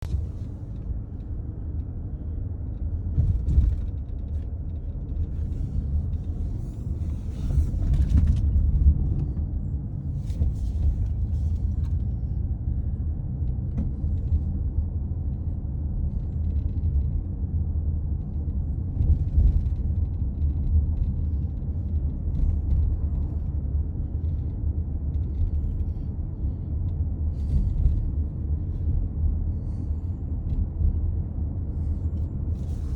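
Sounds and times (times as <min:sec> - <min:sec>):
road rumble inside moving car: 0:00.0 - 0:32.9.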